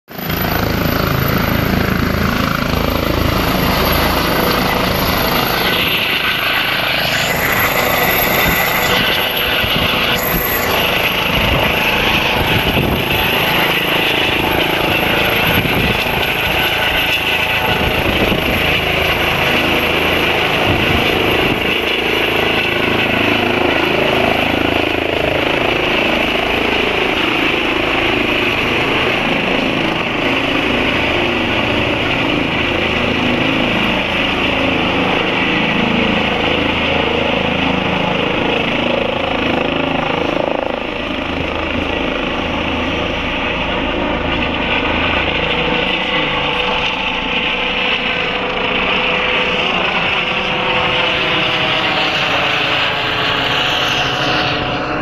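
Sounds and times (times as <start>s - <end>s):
helicopter rotor noise: 0.1s - 55.0s
helicopter turbine whine: 0.1s - 55.0s.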